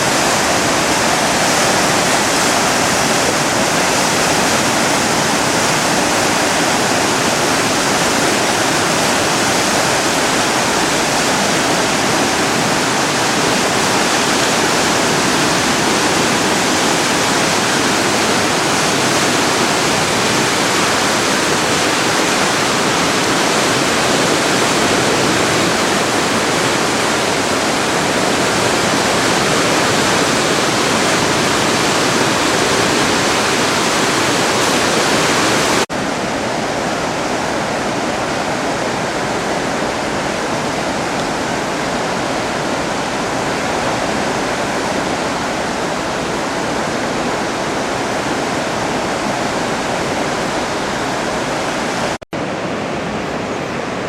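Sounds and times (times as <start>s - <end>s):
rush of fast floodwater: 0.0s - 54.0s.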